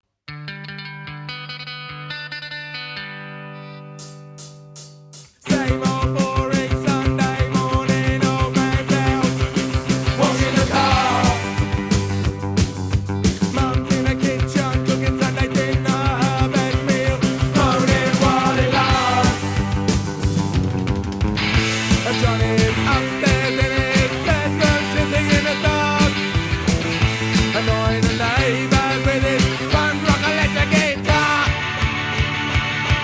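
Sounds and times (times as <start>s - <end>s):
punk rock band playing: 3.0s - 33.0s.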